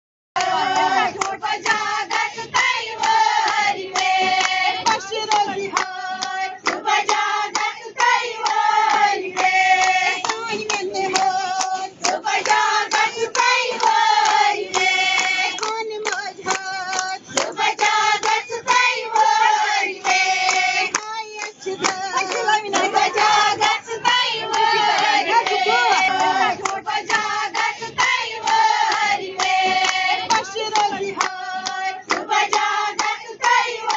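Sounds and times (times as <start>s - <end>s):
rhythmic hand clapping: 0.4s - 33.9s
voices singing together: 0.4s - 33.9s.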